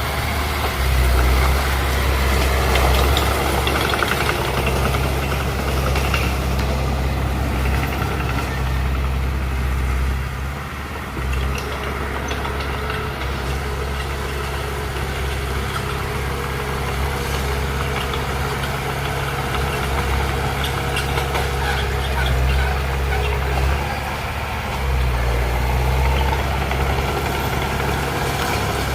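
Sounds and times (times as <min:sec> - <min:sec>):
heavy machinery diesel engine running: 0:00.0 - 0:28.9.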